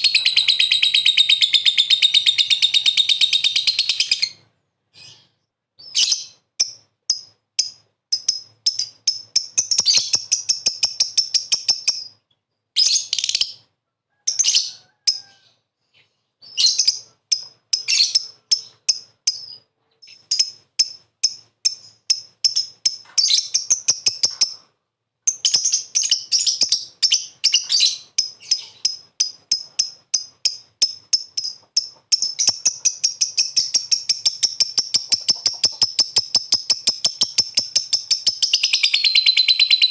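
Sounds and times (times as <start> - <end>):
lovebird chattering: 0.0 - 4.4, 5.8 - 12.2, 16.4 - 24.7, 25.3 - 39.9.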